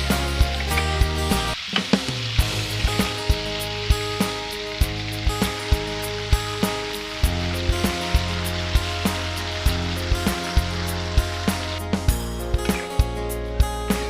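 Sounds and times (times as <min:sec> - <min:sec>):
background music: 0:00.0 - 0:14.0
meat sizzling in a pan: 0:00.0 - 0:14.0.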